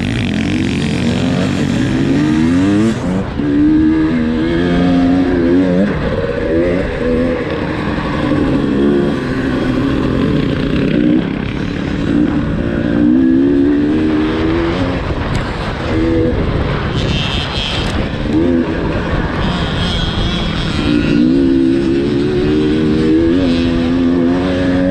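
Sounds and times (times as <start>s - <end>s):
two-stroke motorcycle engine revving: 0.0s - 24.9s.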